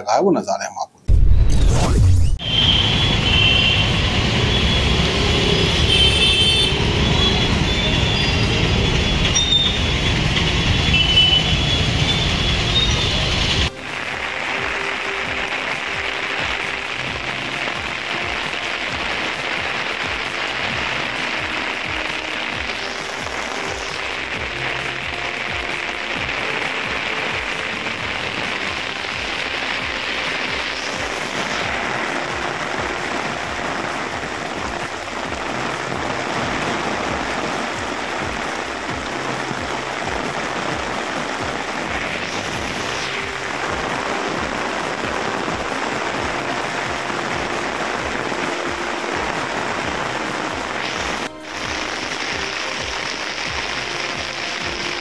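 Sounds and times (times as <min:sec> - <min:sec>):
heavy rain pouring: 0:01.1 - 0:55.0
background music: 0:05.1 - 0:55.0.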